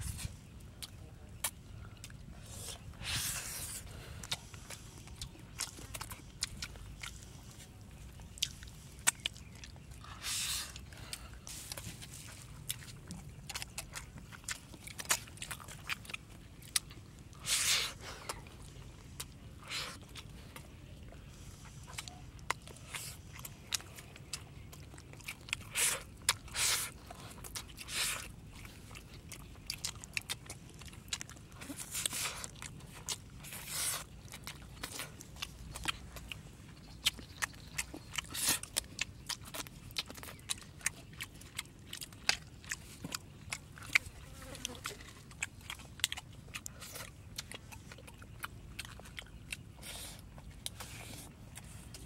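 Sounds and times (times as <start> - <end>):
person chewing with smacking: 0.0 - 52.0.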